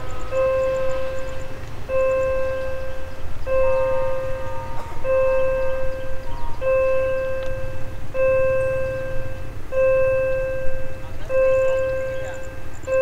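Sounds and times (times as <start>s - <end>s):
bell-like warning tone: 0.0s - 13.0s
low steady rumble: 0.0s - 13.0s.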